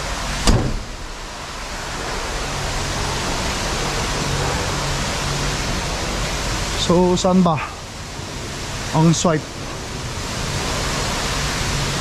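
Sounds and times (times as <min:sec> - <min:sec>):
rushing hiss: 0:00.0 - 0:12.0.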